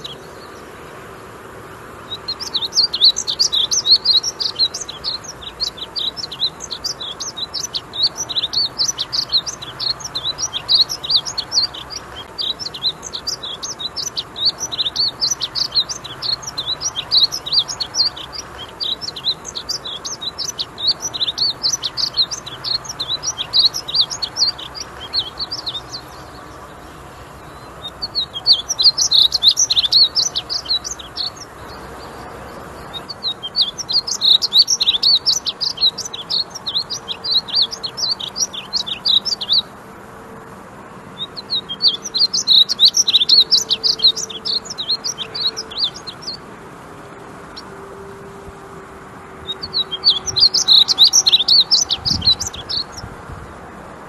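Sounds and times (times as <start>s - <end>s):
bird singing warbled notes: 2.1s - 39.7s, 41.2s - 53.1s.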